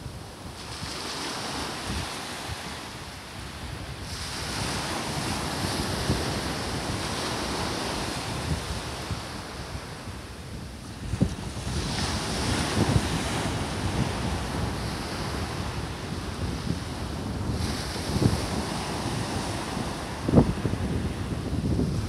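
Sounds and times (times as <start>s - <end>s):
sea waves breaking on sand: 0.0s - 22.0s
wind buffeting microphone: 0.0s - 22.0s.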